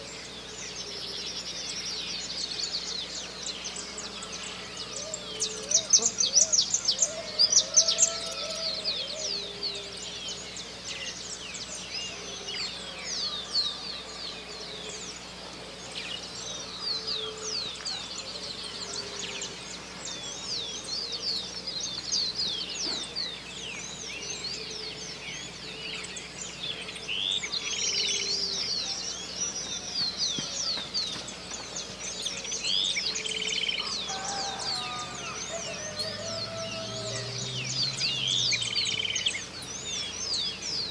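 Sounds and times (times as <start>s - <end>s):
many birds singing: 0.0s - 40.9s.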